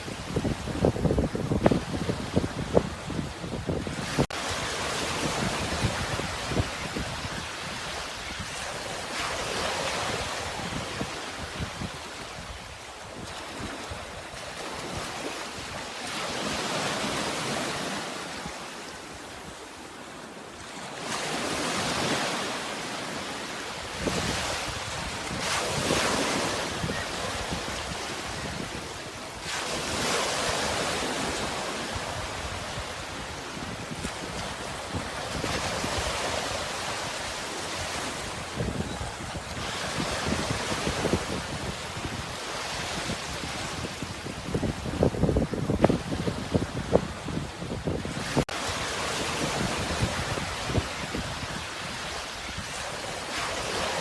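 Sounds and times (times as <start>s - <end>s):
wind rumbling on microphone: 0.0s - 15.8s, 23.9s - 54.0s
sea waves breaking: 0.0s - 54.0s.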